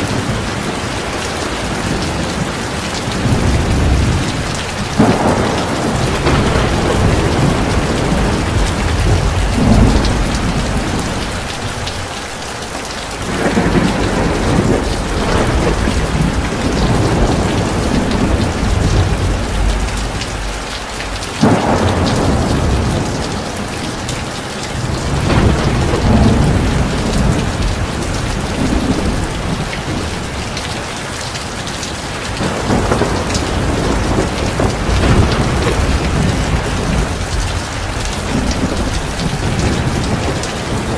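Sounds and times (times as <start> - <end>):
heavy rain pouring: 0.0 - 40.9
rolling thunder: 0.0 - 40.9
sharp thunderclap: 1.6 - 12.5, 13.2 - 30.7, 32.3 - 40.9.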